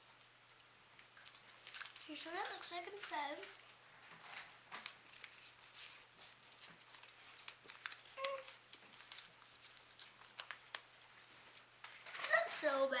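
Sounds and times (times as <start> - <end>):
foil wrapper crinkling: 0.9 - 12.4.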